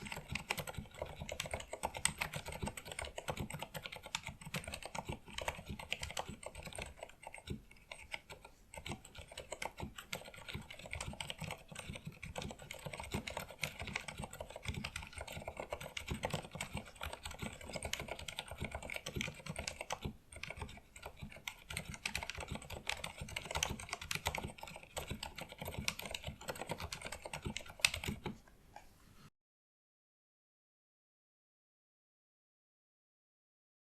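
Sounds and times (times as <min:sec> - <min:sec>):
fast typing on keyboard: 0:00.0 - 0:28.4.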